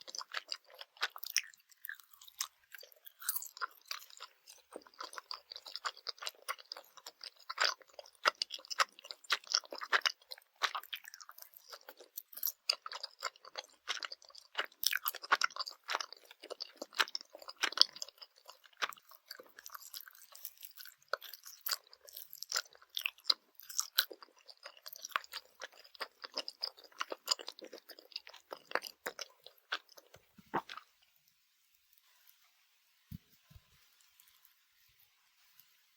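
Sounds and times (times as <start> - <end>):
chewing gummy candy: 0.0 - 31.1.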